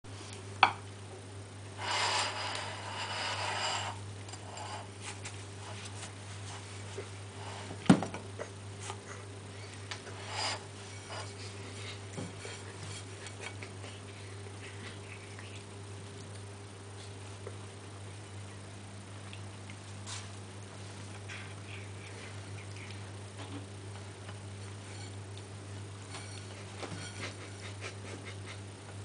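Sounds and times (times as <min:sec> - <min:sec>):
steady low hum: 0:00.1 - 0:29.0.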